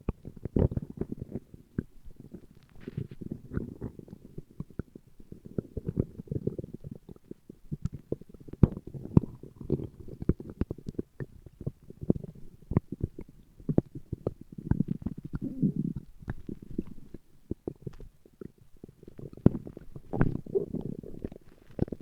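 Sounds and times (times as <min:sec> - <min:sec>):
stomach growling and gurgling: 0:00.0 - 0:22.0.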